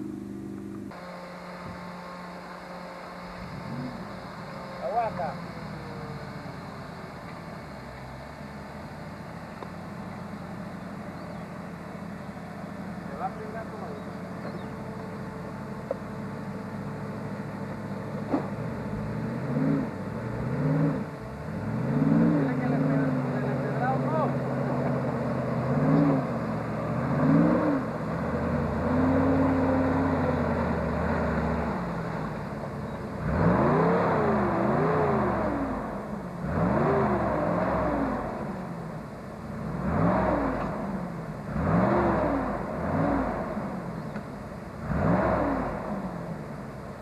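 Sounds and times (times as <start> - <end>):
off-road vehicle engine revving: 0.0 - 47.0.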